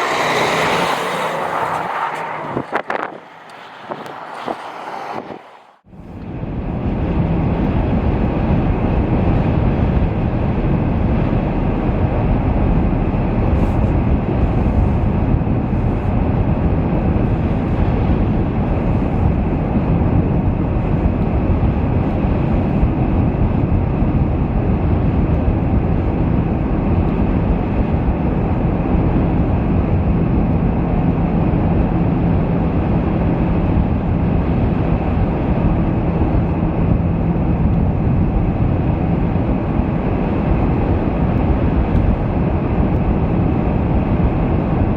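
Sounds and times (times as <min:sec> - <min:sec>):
vehicle road and wind noise: 0:00.0 - 0:44.9.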